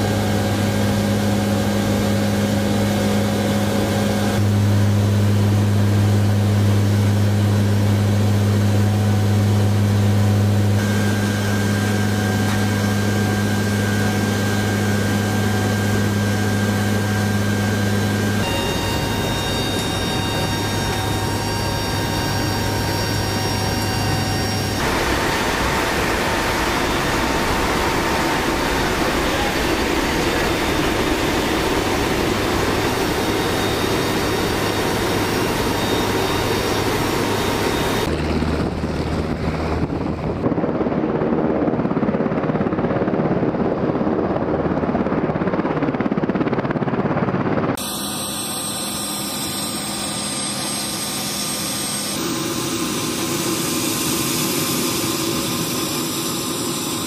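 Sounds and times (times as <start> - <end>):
helicopter rotors turning: 0.0 - 57.0
turboprop engines droning: 0.0 - 57.0.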